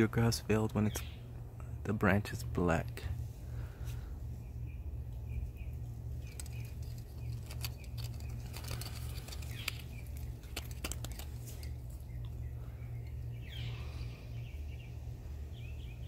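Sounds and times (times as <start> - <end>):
small birds chirping: 0.0 - 1.8, 3.4 - 16.0
steady low hum: 0.0 - 16.0.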